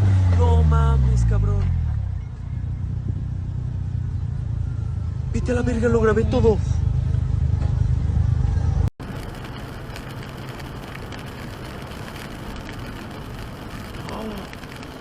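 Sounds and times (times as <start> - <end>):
car engine and road rumble: 0.0 - 15.0
road noise: 0.0 - 15.0.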